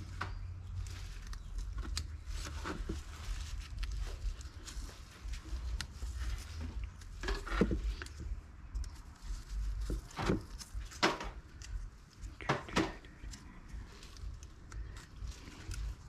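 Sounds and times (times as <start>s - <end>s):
scrapes and rattles: 0.0s - 16.0s
wire scratching and rustling: 0.0s - 16.0s.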